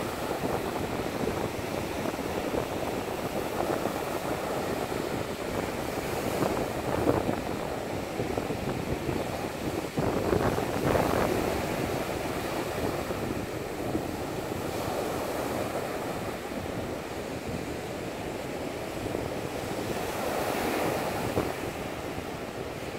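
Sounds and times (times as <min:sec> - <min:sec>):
surf breaking on beach: 0:00.0 - 0:22.9
wind rumbling on microphone: 0:00.0 - 0:22.9.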